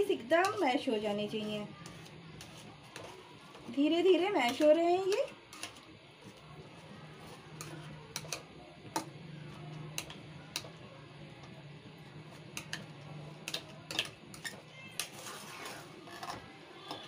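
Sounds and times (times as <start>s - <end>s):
steel spoon scraping a pan: 0.1s - 5.9s, 7.1s - 10.7s, 12.3s - 17.0s.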